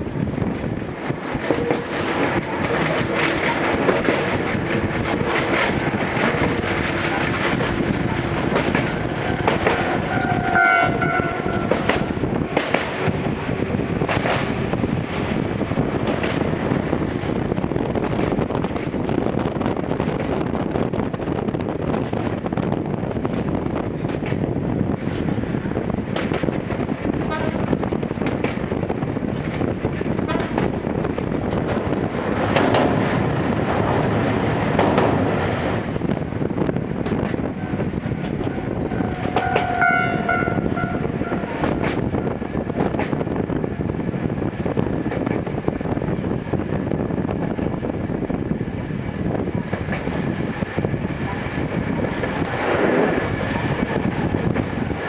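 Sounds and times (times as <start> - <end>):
railcar running noise: 0.0 - 55.0.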